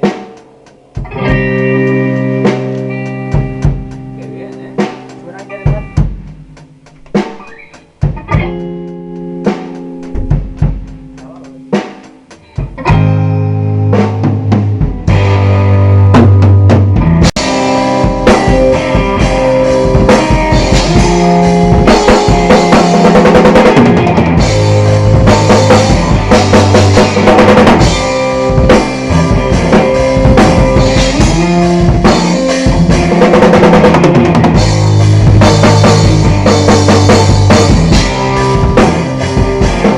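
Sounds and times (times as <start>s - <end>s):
drum kit playing: 0.0s - 39.9s
rock guitar: 0.0s - 39.9s.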